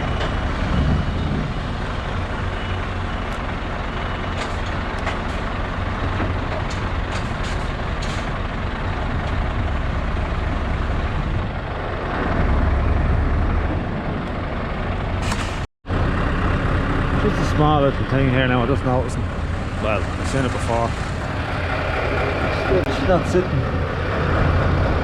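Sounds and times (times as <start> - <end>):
truck engine running at low revs: 0.0 - 25.0.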